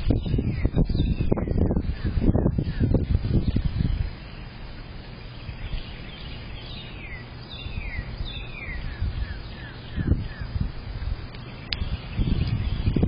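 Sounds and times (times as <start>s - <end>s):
bird whistling song: 0.1s - 4.5s, 5.3s - 10.6s, 11.4s - 13.0s.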